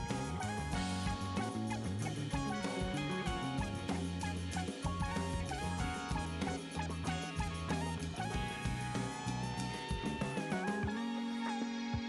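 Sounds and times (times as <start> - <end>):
background music with guitar: 0.0 - 12.0.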